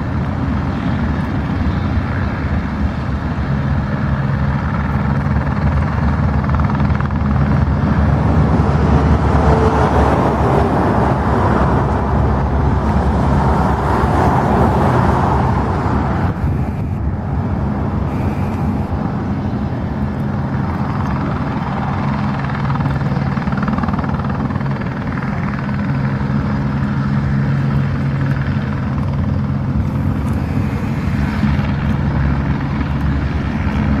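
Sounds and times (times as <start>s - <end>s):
helicopter drone: 0.0s - 34.0s.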